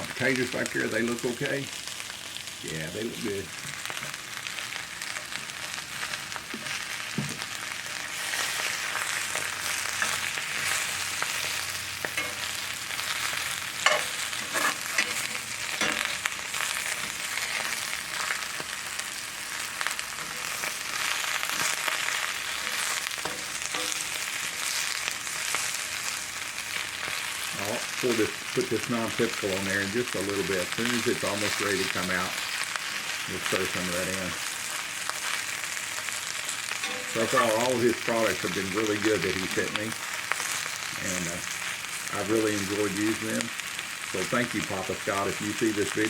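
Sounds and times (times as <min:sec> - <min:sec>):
food sizzling in a skillet: 0:00.0 - 0:46.0.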